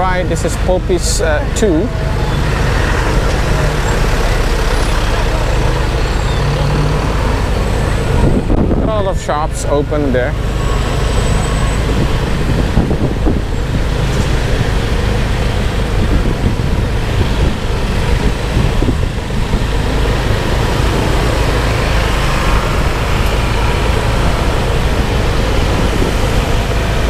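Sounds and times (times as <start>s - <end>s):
motorbike engine and road noise: 0.0s - 27.0s
street traffic: 0.0s - 27.0s
wind rumble on microphone: 0.0s - 27.0s.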